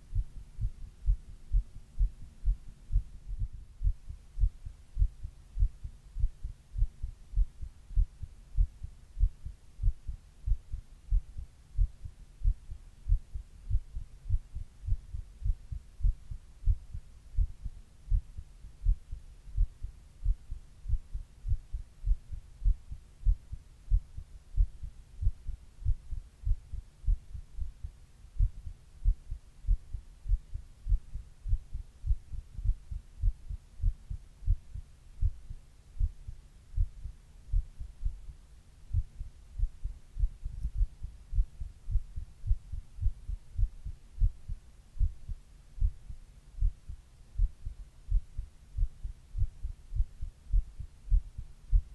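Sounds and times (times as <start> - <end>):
heart beating: 0.0 - 51.9.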